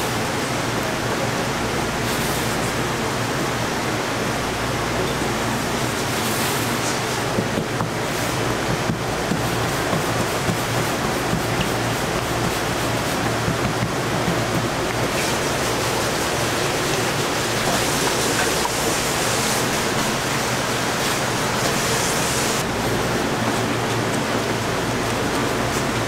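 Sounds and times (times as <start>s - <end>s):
rushing kitchen background noise: 0.0s - 26.0s.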